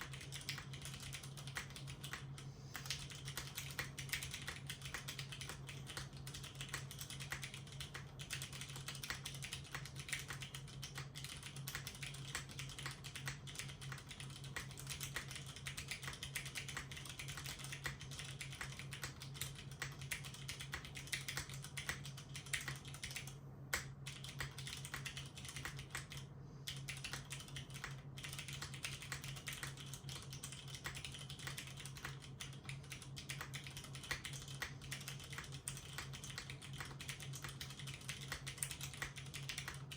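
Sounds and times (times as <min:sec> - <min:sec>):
fast typing on mechanical keyboard: 0:00.0 - 0:39.9
steady low hum: 0:00.0 - 0:39.9.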